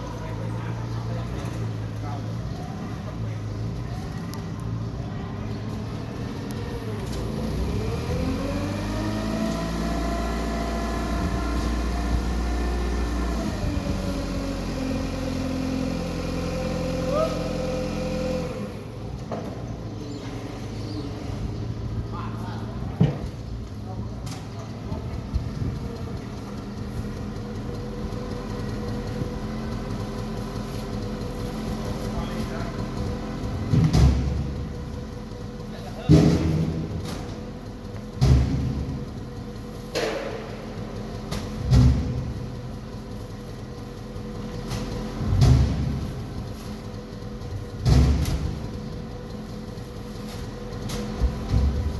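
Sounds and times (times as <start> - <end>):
forklift engine revving: 0.1 - 19.3, 25.0 - 51.9.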